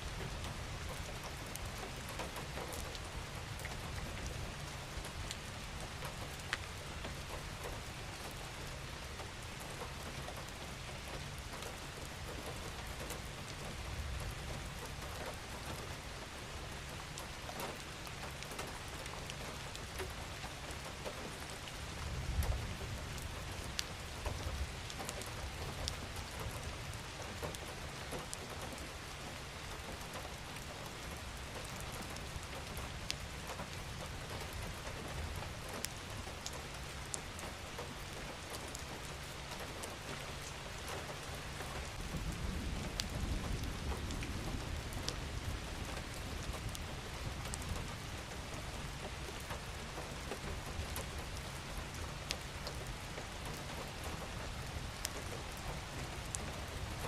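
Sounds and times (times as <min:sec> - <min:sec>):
raindrops ticking on surfaces: 0:00.0 - 0:57.0.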